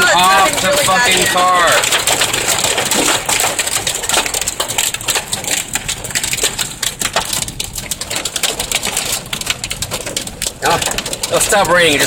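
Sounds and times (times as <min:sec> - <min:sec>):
hail clattering on car roof: 0:00.0 - 0:12.0
low road rumble: 0:00.0 - 0:12.0.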